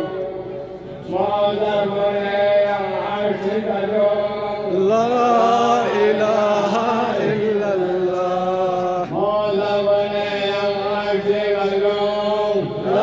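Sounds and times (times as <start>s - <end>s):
man chanting devotional poem: 1.0s - 13.0s.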